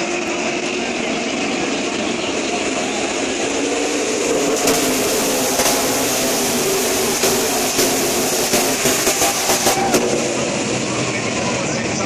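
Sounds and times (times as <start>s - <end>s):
racing trucks engines droning: 0.0s - 12.0s.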